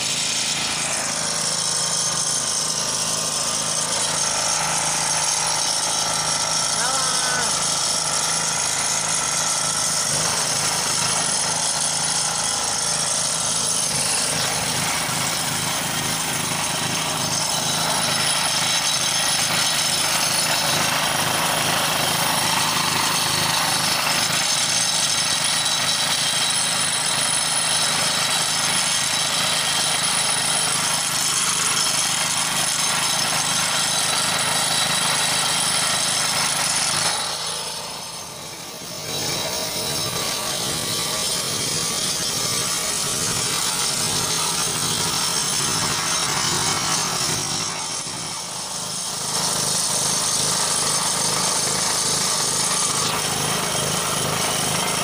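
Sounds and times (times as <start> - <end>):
line-marking machine motor and pump: 0.0 - 55.0.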